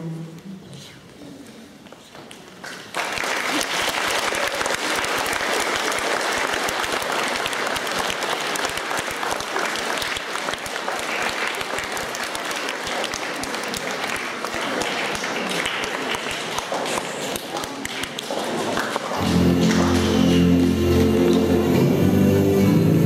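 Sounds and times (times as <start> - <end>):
children applauding: 2.6 - 21.9.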